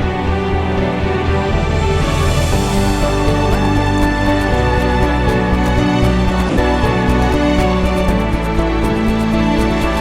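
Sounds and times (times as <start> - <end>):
background music with bass and chords: 0.0 - 10.0.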